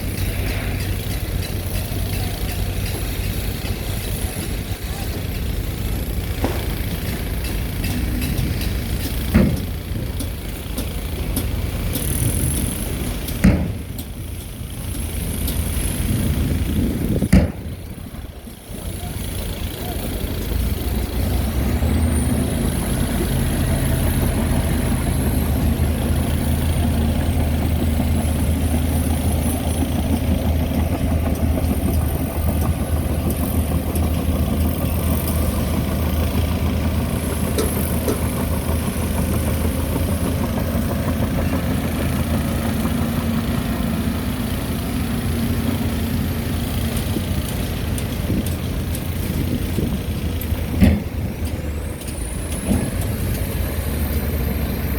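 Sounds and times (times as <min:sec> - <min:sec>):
heavy diesel engine droning: 0:00.0 - 0:54.9.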